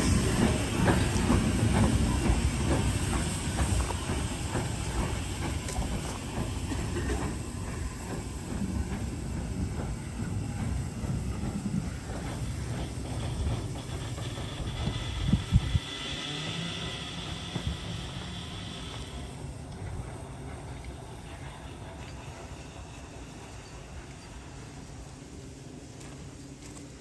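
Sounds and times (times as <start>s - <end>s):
train clanks: 0.0s - 27.0s
train rumbling with hiss: 0.0s - 27.0s.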